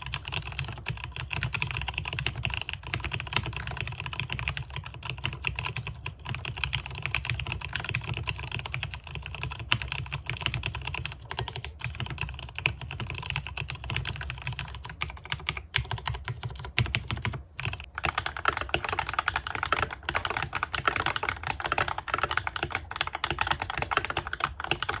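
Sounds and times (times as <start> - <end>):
mechanical keyboard typing: 0.0 - 25.0.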